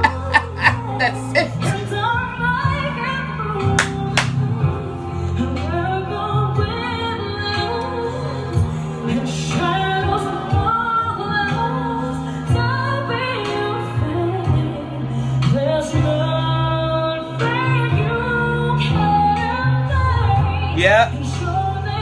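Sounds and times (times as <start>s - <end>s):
woman singing pop ballad: 0.0s - 22.0s.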